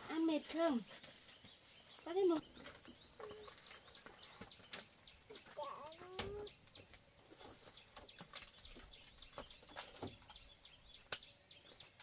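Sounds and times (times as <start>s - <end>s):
faint bird chirps: 1.0s - 12.0s.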